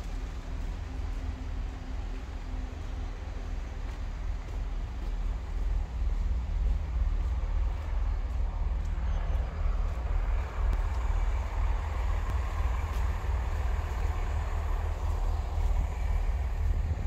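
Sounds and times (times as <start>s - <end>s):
diesel train engine running: 0.0s - 17.0s
wind rumble on microphone: 0.0s - 17.0s.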